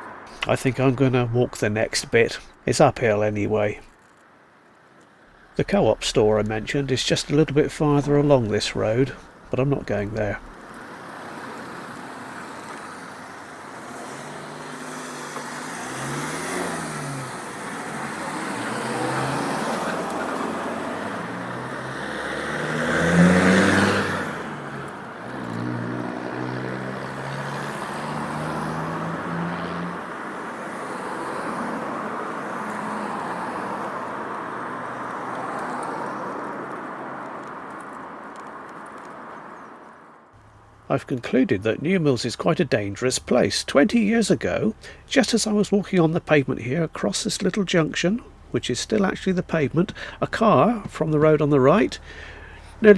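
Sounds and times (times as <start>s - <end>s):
cars passing by: 0.0s - 52.9s.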